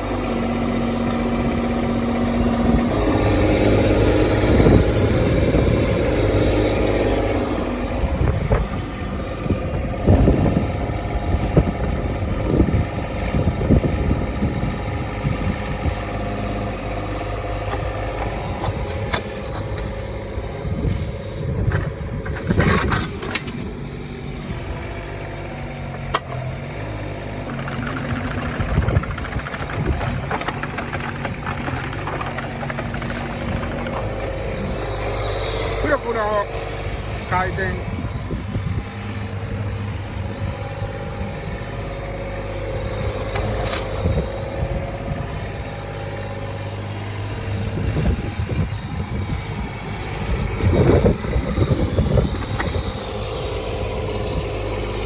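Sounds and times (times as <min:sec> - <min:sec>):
mini excavator diesel engine: 0:00.0 - 0:55.0.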